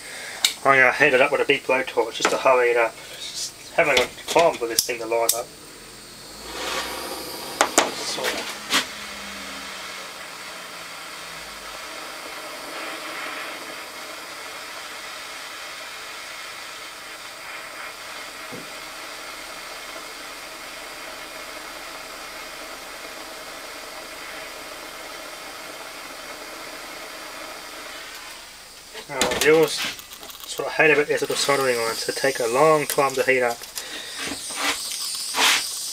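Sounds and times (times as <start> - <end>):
blowtorch flame hissing: 0.0 - 35.9.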